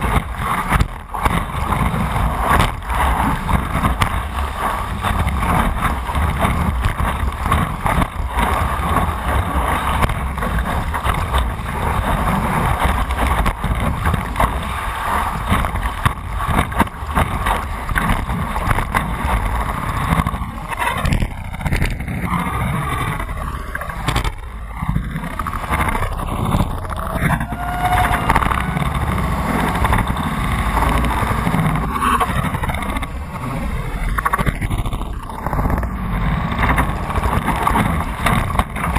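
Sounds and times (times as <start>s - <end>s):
water rushing and splashing: 0.0s - 38.9s
wind buffeting microphone: 0.0s - 38.9s.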